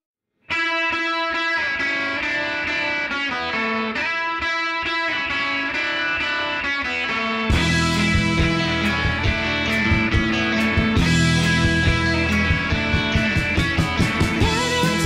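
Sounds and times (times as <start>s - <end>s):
guitar music: 0.5s - 15.0s.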